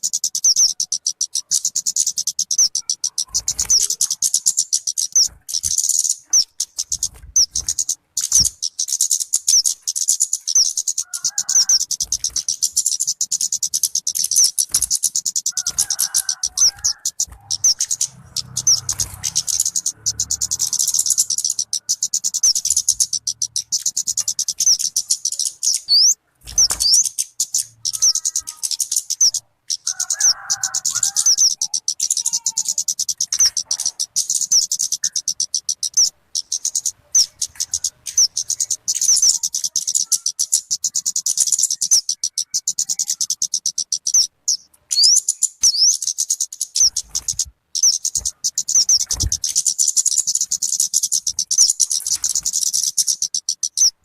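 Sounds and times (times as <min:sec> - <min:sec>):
bird chirping rapidly: 0:00.0 - 0:54.0.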